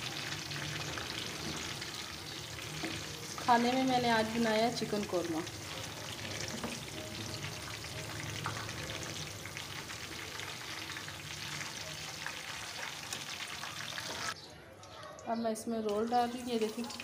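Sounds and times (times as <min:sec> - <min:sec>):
oil sizzling and crackling: 0:00.0 - 0:14.4, 0:15.9 - 0:17.0.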